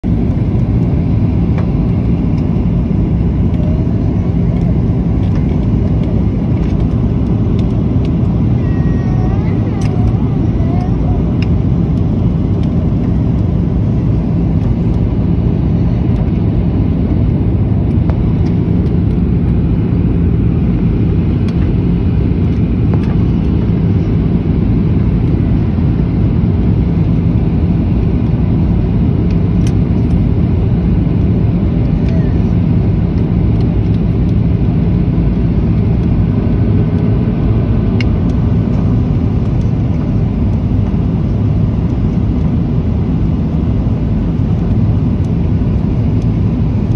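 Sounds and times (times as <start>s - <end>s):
constant hum: 0.0s - 46.9s
jet engines droning in cabin: 0.0s - 46.9s.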